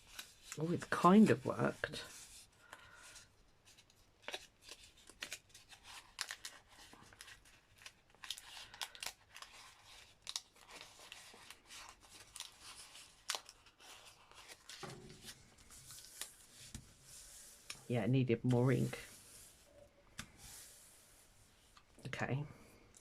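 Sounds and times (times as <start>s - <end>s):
paper crackling and rustling: 0.0s - 2.4s, 3.0s - 20.8s.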